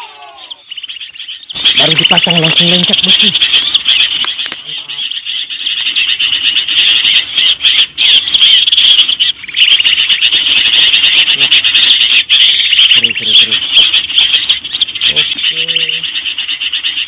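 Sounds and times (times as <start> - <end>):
recorded bird chirping from speaker: 0.0 - 17.0.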